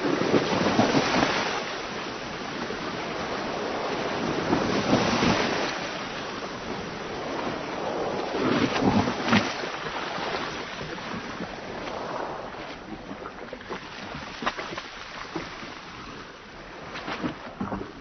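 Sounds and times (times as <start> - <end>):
water splashes: 0.0 - 18.0
waves slapping boat hull: 0.0 - 18.0.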